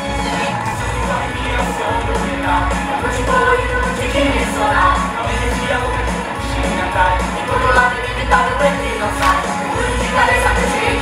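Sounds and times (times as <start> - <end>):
pop-rock music with singing: 0.0 - 11.0.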